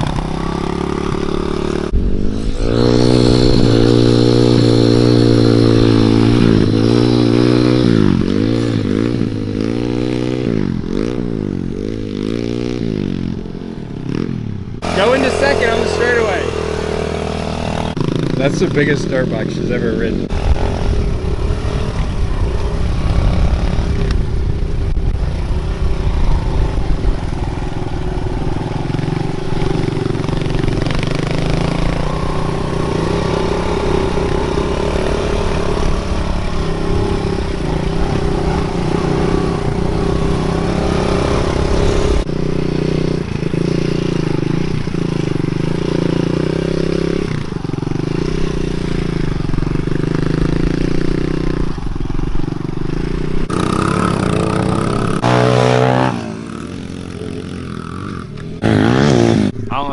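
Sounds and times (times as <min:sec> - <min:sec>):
pit bike engine running: 0:00.0 - 0:59.9.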